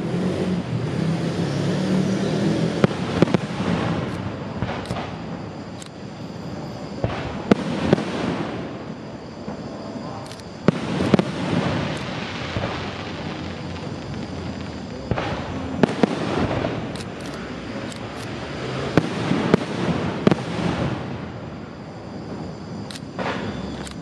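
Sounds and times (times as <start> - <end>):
firework crackling: 0.0 - 24.0
firework bangs: 2.6 - 6.1, 7.0 - 9.8, 10.5 - 23.8.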